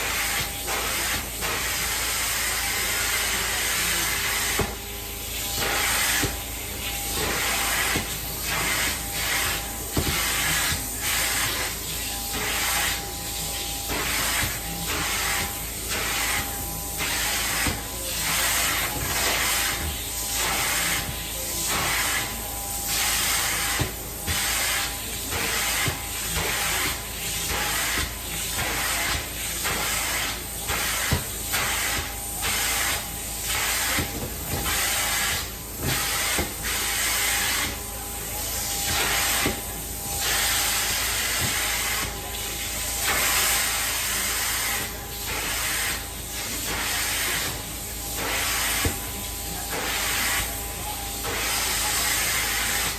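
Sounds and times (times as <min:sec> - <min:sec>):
spray and suction hissing: 0:00.0 - 0:50.6.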